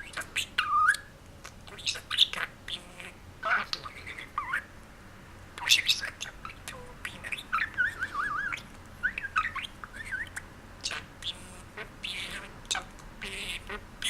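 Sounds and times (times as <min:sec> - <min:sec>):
budgerigar chattering: 0:00.0 - 0:04.7, 0:05.6 - 0:14.0.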